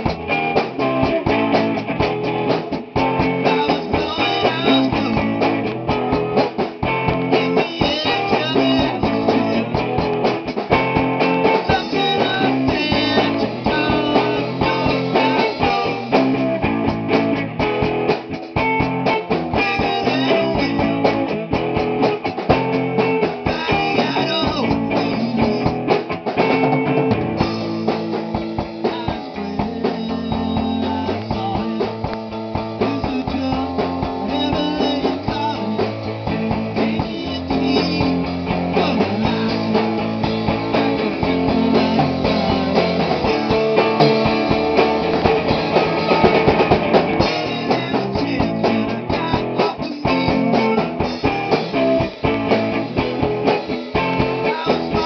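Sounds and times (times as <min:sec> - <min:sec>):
electric guitar strumming: 0:00.0 - 0:55.0
rock band playing: 0:00.0 - 0:55.0.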